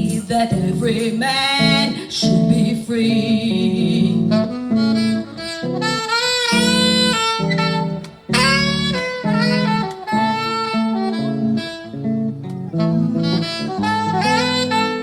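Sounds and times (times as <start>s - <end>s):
bass accompaniment: 0.0s - 15.0s
saxophone jazz melody: 0.0s - 15.0s.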